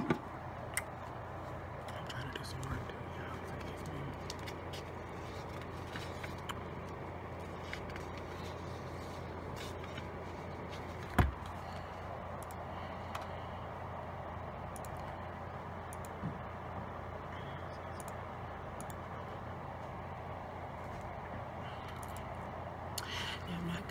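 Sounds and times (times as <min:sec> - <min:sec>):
office room hum: 0:00.0 - 0:23.9.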